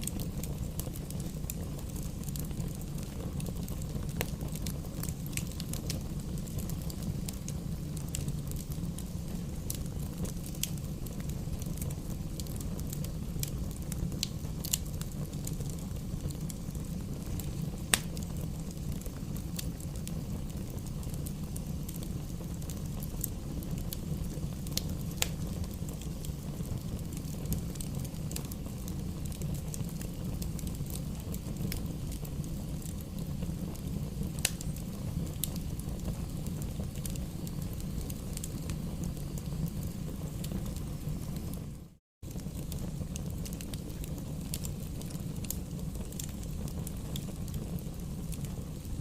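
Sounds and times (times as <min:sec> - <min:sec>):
burning wood crackles and pops: 0:00.0 - 0:49.0
campfire burning with low roar: 0:00.0 - 0:49.0.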